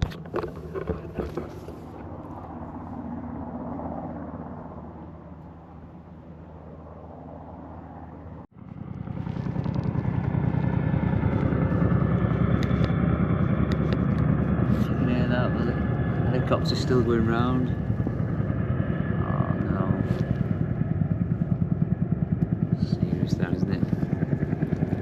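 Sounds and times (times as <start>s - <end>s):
helicopter rotor hum: 0.0s - 25.0s.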